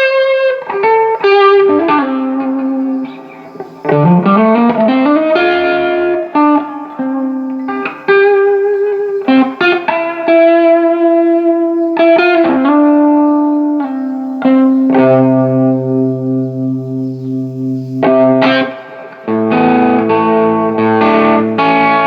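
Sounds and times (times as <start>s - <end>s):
electric guitar notes: 0.0s - 22.0s.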